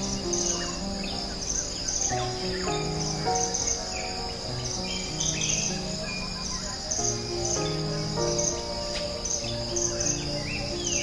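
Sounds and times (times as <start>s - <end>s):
crickets chirping: 0.0s - 11.0s
slow background music: 0.0s - 11.0s.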